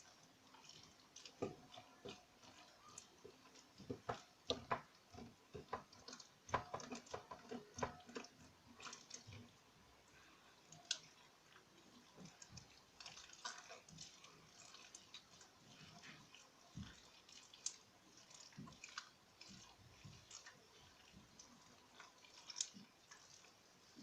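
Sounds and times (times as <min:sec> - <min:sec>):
slime squishing: 0:00.0 - 0:24.0.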